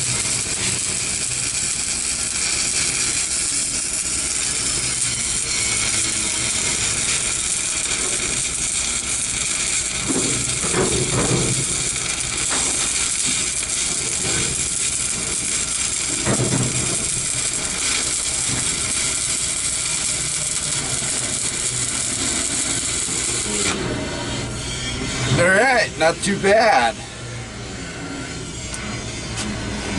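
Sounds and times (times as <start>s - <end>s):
welding arc crackling: 0.0s - 27.0s.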